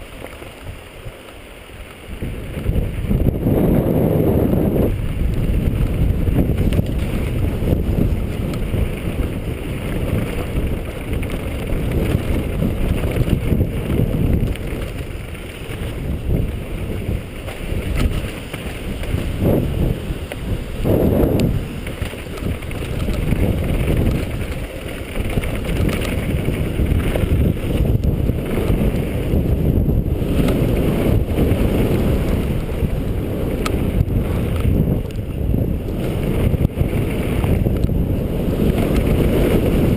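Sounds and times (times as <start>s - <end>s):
mountain bike rolling on dirt: 0.0s - 39.9s
wind buffeting microphone: 0.0s - 39.9s.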